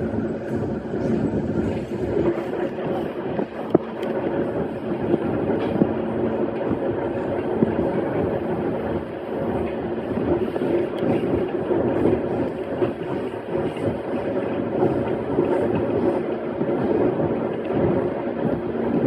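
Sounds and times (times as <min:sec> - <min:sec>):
low even hum: 0:00.0 - 0:19.0
train wheels rumbling on rail: 0:00.0 - 0:19.0.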